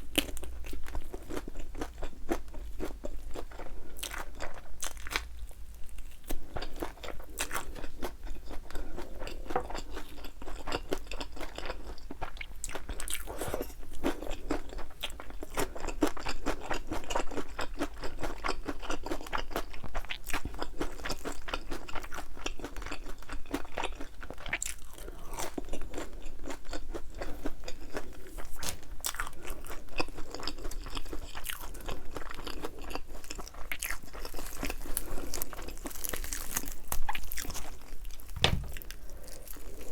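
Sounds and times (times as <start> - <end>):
crunching fried chicken: 0.0 - 39.9.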